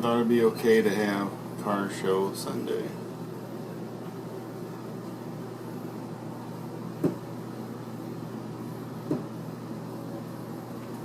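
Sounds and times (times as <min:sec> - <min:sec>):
low household hum: 0:00.0 - 0:11.0.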